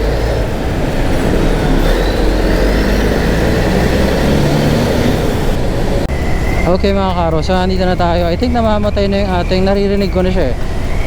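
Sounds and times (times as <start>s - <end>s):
motorcycle engine low rumble: 0.0s - 11.0s.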